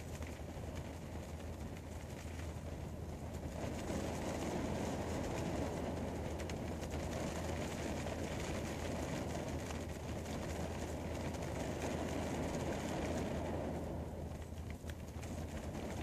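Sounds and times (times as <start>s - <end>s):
rain on car roof: 0.0s - 16.0s.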